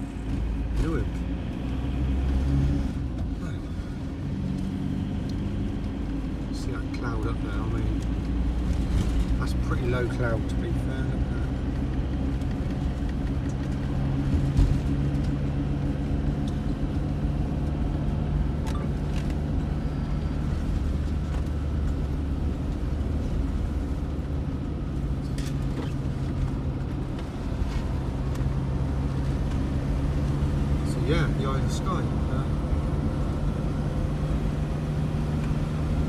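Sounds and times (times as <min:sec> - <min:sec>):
tyre rumble on wet road: 0:00.0 - 0:36.0
vehicle engine hum: 0:00.0 - 0:36.0.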